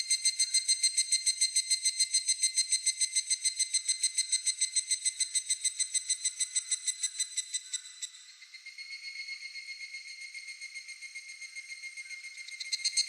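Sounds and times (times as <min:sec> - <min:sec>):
cicada ringing call: 0:00.0 - 0:13.0.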